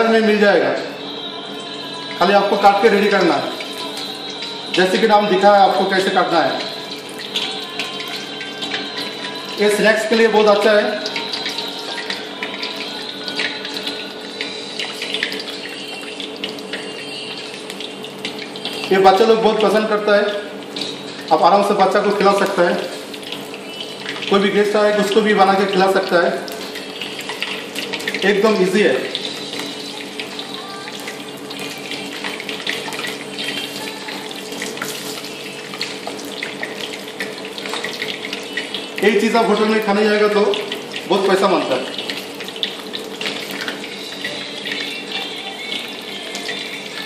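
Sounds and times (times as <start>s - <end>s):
chicken wings deep-frying in oil: 0.0s - 47.0s.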